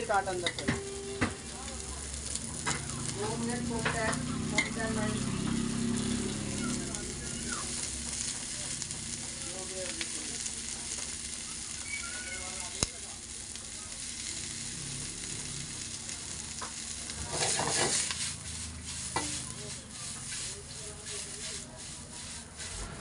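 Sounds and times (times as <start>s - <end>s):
noodles sizzling in wok: 0.0s - 23.0s.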